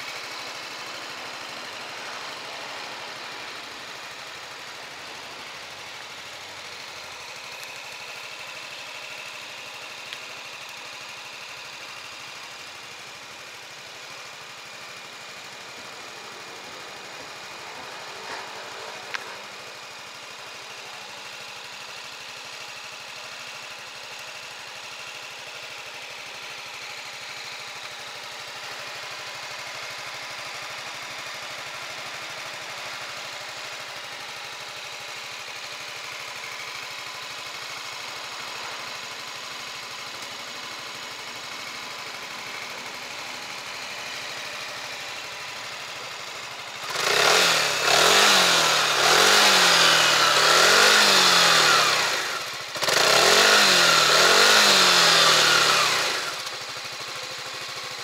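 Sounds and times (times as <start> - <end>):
scooter engine idling and revving: 0.0 - 58.0.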